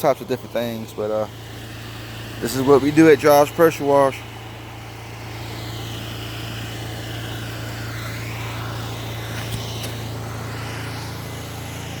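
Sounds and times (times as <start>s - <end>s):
hissing water spray: 0.0s - 12.0s
pressure washer engine drone: 0.0s - 12.0s.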